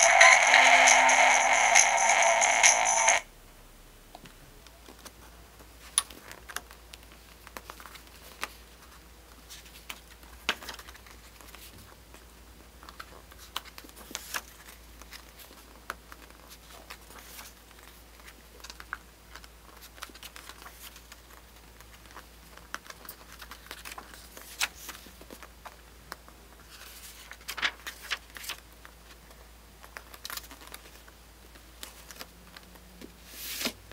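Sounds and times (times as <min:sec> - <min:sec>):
faint low hum: 0:00.0 - 0:33.9
paper pages rustling: 0:06.2 - 0:33.8.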